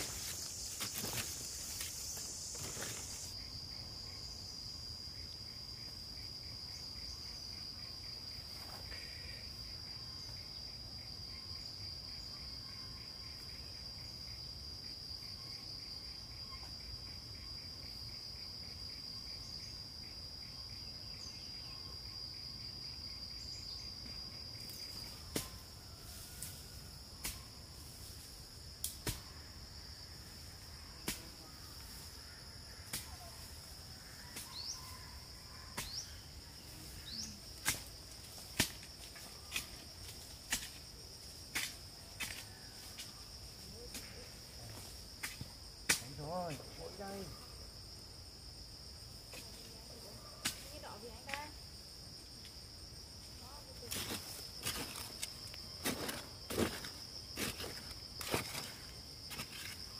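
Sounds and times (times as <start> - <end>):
insect high-pitched trill: 0.0 - 59.9.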